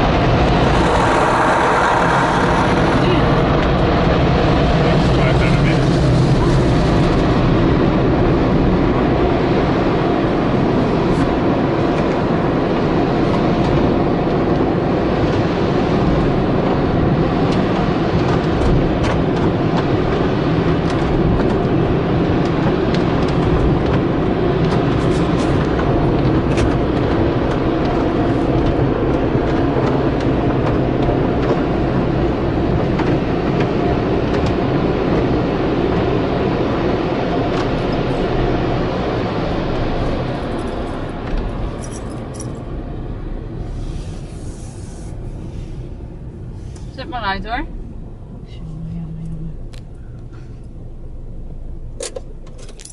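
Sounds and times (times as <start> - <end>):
car wash machinery running: 0.0 - 52.9.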